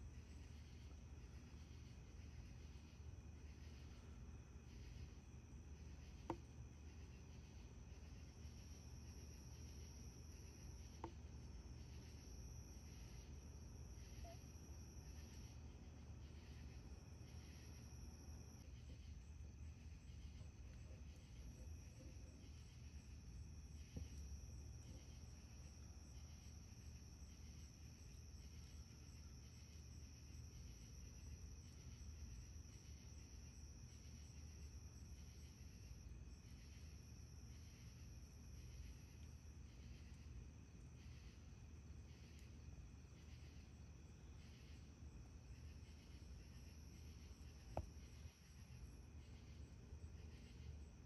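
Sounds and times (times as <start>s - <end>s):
faint evenly spaced ticks: 0.0s - 51.0s
insects trilling: 0.0s - 51.0s.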